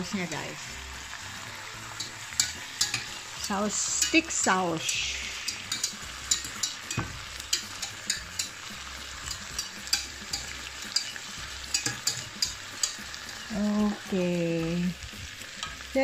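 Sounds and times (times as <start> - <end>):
meat sizzling in a frying pan: 0.0 - 16.0
spatula moving meat: 0.2 - 16.0.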